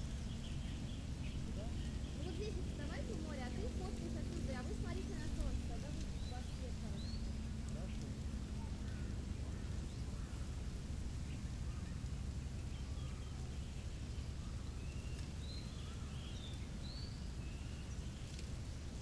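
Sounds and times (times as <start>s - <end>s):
low outdoor rumble: 0.0s - 19.0s
small birds chirping: 0.0s - 19.0s.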